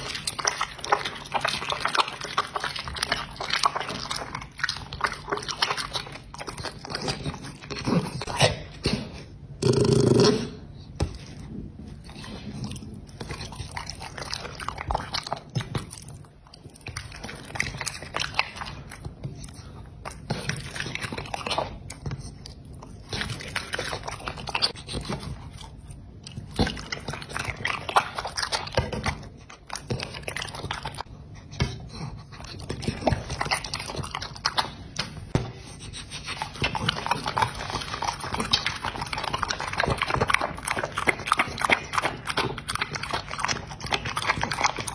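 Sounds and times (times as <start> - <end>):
dog chewing wet food: 0.0 - 9.7, 10.9 - 44.9.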